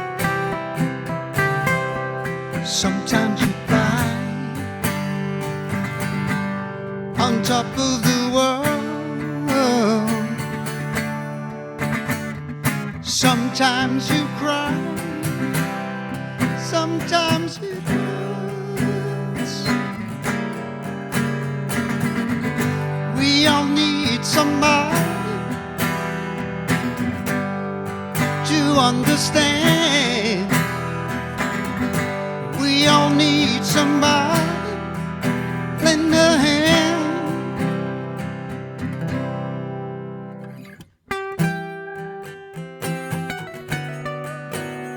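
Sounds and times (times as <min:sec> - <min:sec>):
acoustic guitar music: 0:00.0 - 0:44.9.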